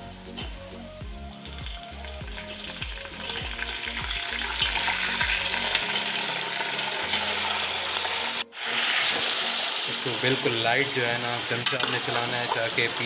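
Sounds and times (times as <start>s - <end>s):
chicken sizzling in hot oil: 1.5s - 13.0s.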